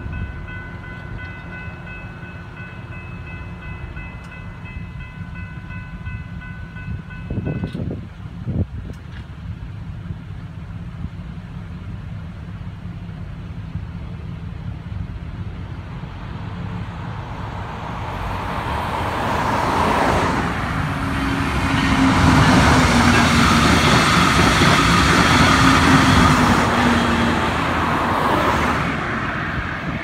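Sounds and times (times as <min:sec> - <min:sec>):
train passing with rail noise: 0:00.0 - 0:30.0.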